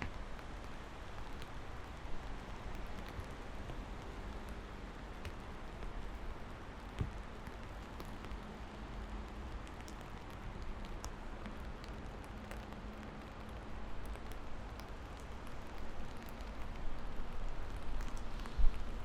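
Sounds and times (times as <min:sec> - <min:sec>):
rain falling: 0:00.0 - 0:19.0
raindrops ticking: 0:00.0 - 0:19.0.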